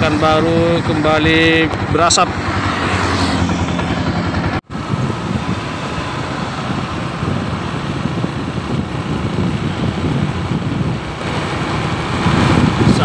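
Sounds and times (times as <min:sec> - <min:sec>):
vehicle road noise: 0:00.0 - 0:13.0
wind rumbling on microphone: 0:00.0 - 0:13.0.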